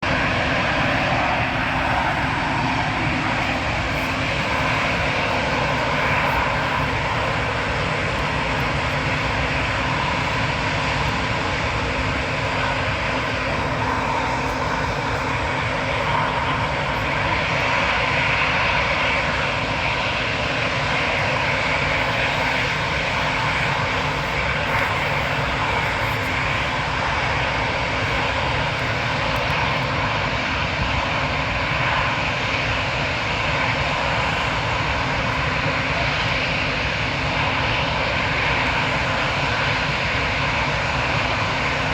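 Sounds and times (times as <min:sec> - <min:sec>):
faint steady hum: 0:00.0 - 0:41.9
jet engines running: 0:00.0 - 0:41.9.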